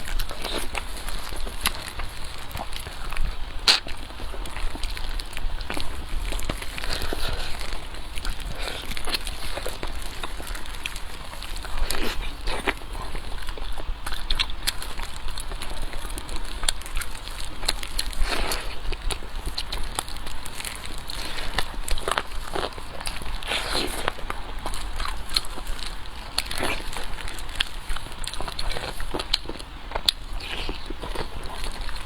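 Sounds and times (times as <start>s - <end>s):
chewing with wet mouth clicks: 0.0s - 32.0s
smacking or slurping: 0.0s - 32.0s.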